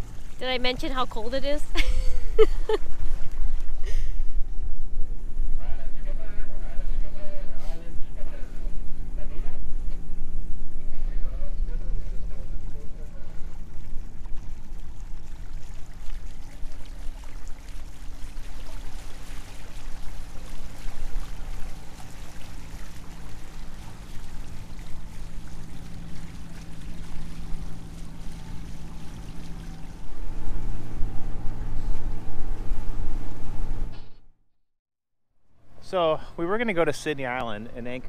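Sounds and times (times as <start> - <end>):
water rushing along hulls: 0.0 - 5.5, 6.2 - 33.9
boat engine hum: 0.0 - 34.3, 35.5 - 38.0.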